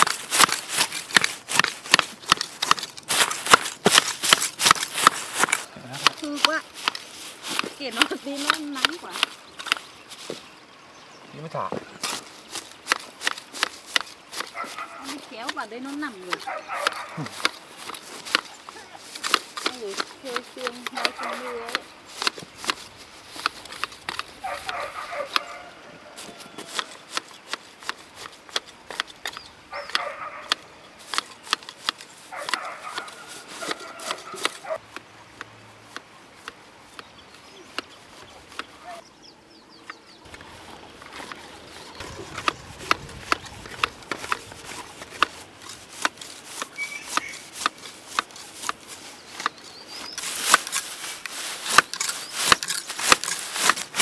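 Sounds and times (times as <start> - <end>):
grass shears snipping: 0.0 - 10.5, 11.8 - 39.0, 39.8 - 54.0.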